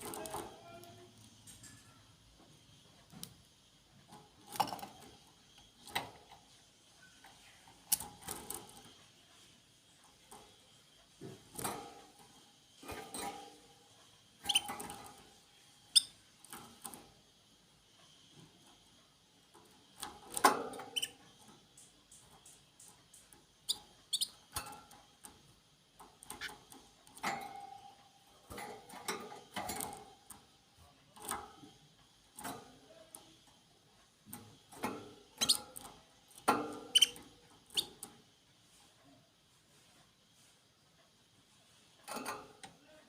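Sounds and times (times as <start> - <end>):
small birds clicking and scuffling: 0.0 - 43.0.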